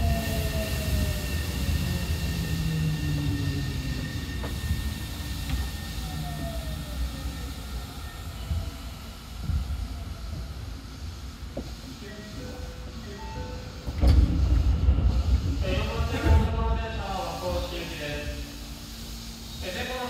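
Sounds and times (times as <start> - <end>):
subway car wheels rumbling: 0.0 - 20.0.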